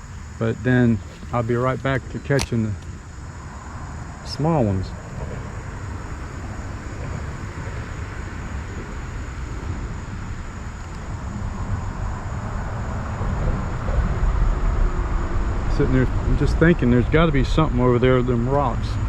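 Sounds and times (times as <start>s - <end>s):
steady low rumbling: 0.0s - 19.0s.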